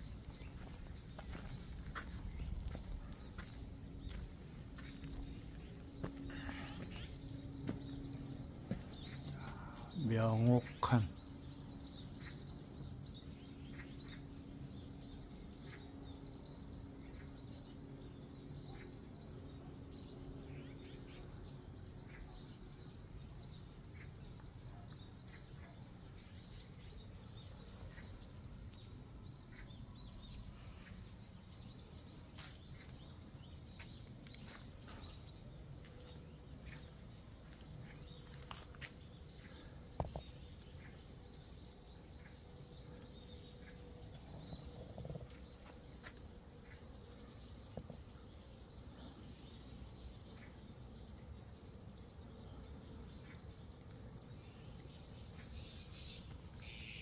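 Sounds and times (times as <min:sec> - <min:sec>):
low background noise: 0:00.0 - 0:57.0
small birds chirping: 0:00.0 - 0:57.0.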